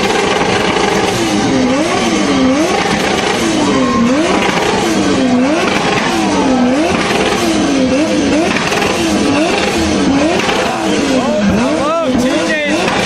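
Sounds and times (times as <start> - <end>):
car engine revving: 0.0 - 13.0
crackling exhaust: 0.0 - 13.0.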